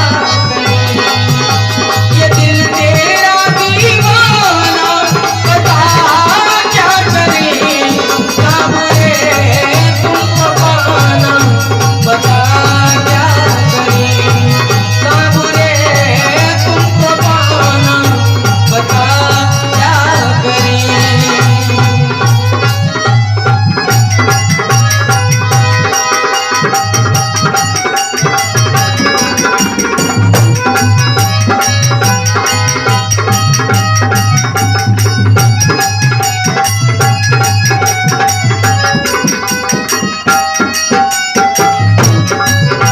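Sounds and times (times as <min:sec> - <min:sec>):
devotional song melody: 0:00.0 - 0:42.9
steady drum beat: 0:00.0 - 0:42.9.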